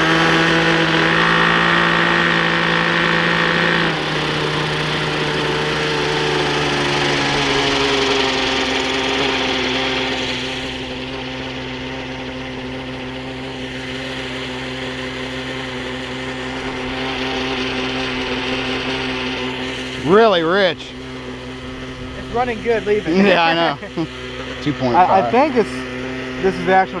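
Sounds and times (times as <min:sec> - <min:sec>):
rc helicopter engine running: 0:00.0 - 0:27.0.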